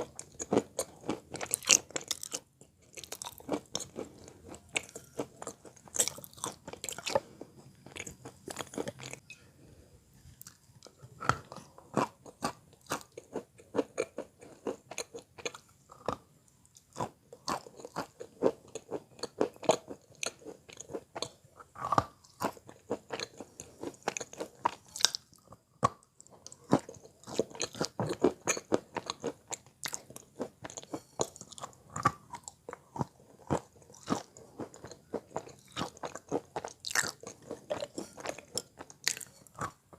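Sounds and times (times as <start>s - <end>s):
chewing chalk crunches: 0.0s - 9.2s, 10.4s - 39.9s.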